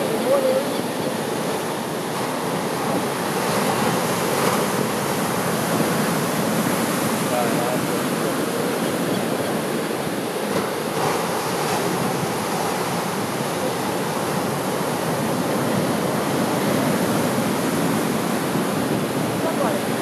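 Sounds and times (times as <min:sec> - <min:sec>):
waves breaking on a beach: 0:00.0 - 0:20.0.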